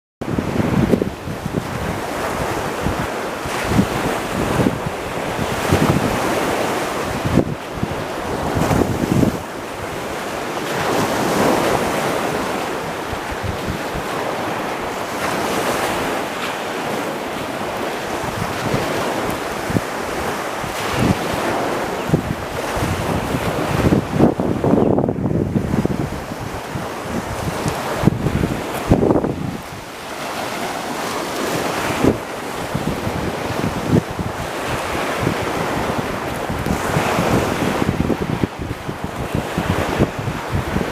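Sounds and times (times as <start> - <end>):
surf washing onto beach: 0.2 - 40.9
wind buffeting microphone: 0.2 - 40.9.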